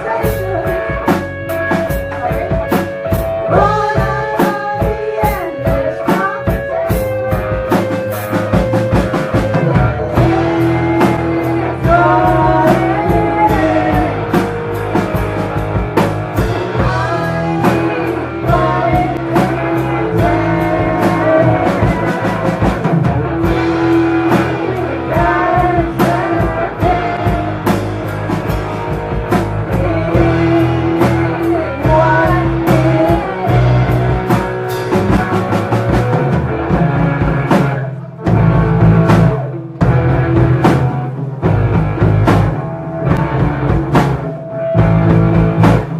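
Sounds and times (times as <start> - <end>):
drum kit beat: 0.0 - 45.9
electric guitar: 0.0 - 45.9
live rock band: 0.0 - 45.9.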